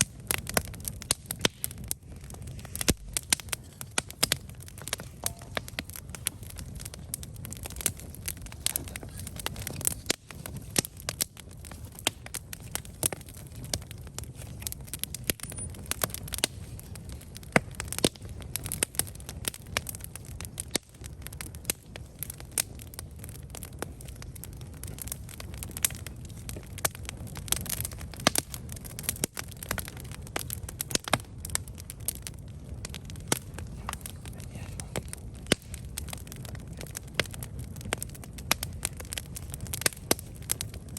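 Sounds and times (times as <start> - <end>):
campfire crackles and pops: 0.0 - 40.9
low rumble of flames: 0.0 - 40.9.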